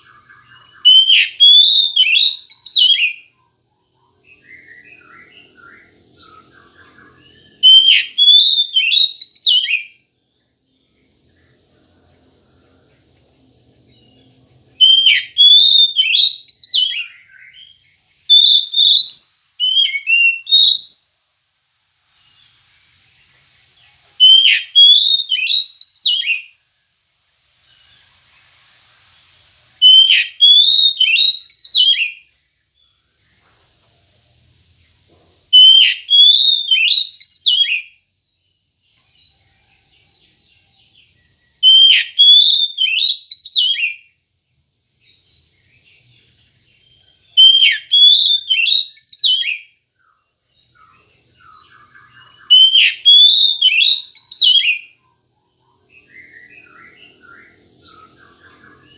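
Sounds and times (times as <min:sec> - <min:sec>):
faint bird twittering: 0:00.0 - 0:21.2, 0:27.6 - 0:58.9
bird singing whistled notes: 0:00.0 - 0:21.3, 0:22.2 - 0:26.9, 0:27.6 - 0:33.5, 0:34.7 - 0:58.9.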